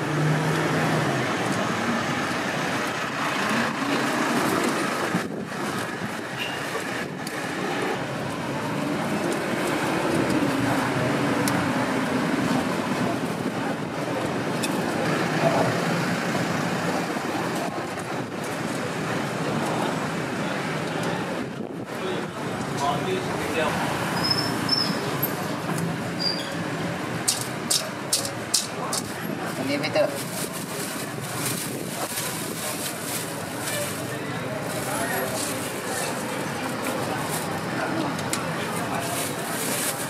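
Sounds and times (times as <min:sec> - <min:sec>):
faint background voices: 0:00.0 - 0:40.0
traffic noise: 0:00.0 - 0:40.0.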